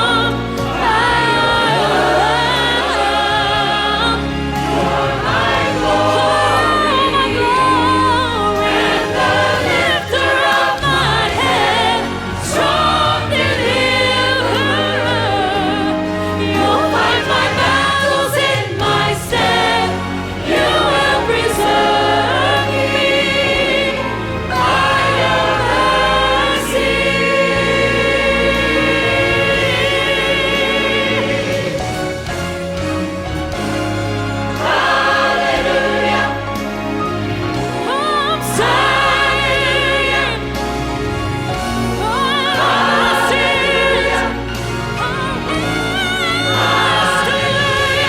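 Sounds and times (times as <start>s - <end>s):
choir singing a hymn: 0.0s - 48.0s
steady bass: 0.0s - 48.0s.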